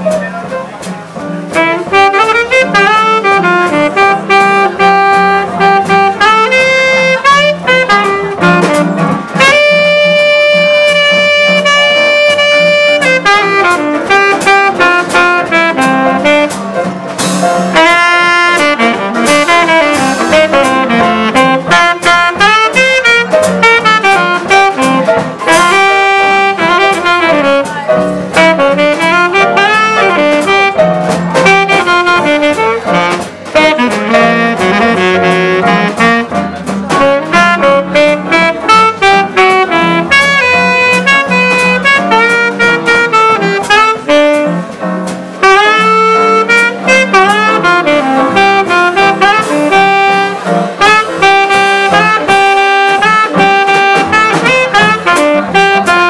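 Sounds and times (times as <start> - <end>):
drums: 0.0 - 56.0
piano: 0.0 - 56.0
saxophone solo: 0.0 - 56.0
upright bass: 0.0 - 56.0.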